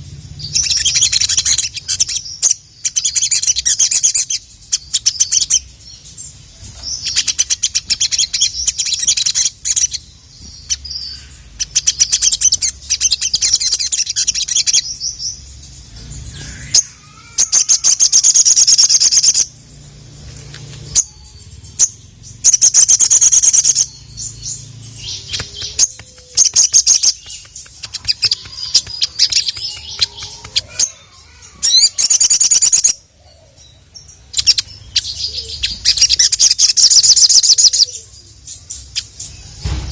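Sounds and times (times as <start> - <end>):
bird chattering trills: 0.0 - 19.8, 20.8 - 39.9.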